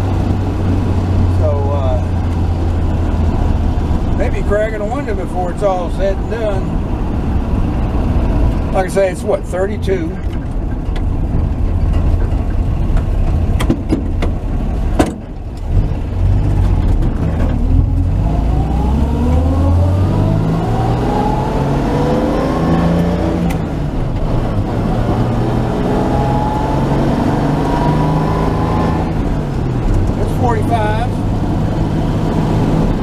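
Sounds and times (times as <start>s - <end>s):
truck engine accelerating: 0.0s - 33.0s.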